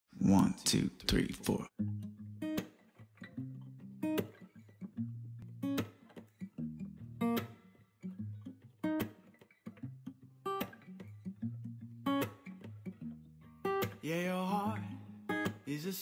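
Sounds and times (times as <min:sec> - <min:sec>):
acoustic guitar picking and strumming: 0:00.3 - 0:16.0.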